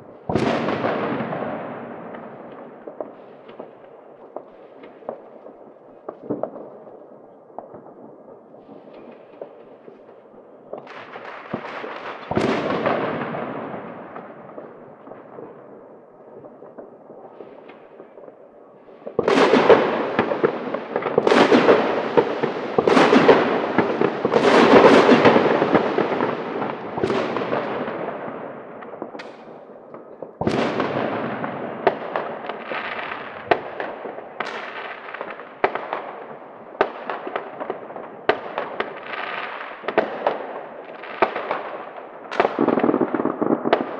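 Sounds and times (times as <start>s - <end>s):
firecrackers crackling pops: 0.0s - 10.1s, 10.7s - 15.8s, 16.4s - 43.9s
fireworks bangs echoing: 0.0s - 43.9s.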